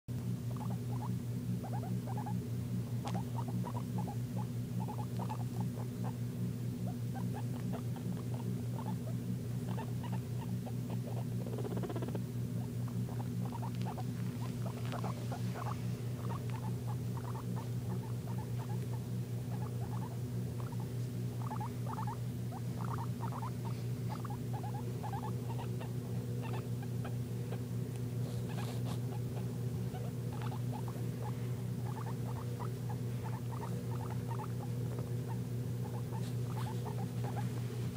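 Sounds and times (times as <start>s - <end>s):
low hum: 0.1s - 37.9s
small animal squeaking: 0.4s - 6.2s, 6.8s - 37.7s.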